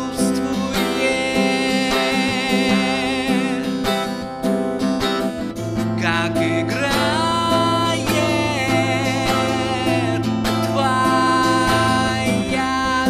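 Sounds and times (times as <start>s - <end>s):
person singing: 0.0s - 4.3s, 5.8s - 13.0s
guitar: 0.0s - 13.0s.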